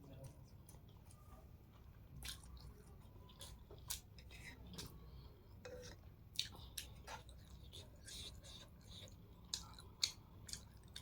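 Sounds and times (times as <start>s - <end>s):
person chewing noodles: 0.2s - 11.0s.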